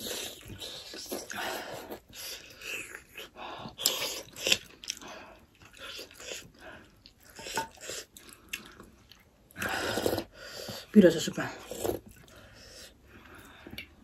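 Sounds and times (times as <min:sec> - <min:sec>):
wet chewing and smacking: 0:00.0 - 0:10.9, 0:11.6 - 0:14.0.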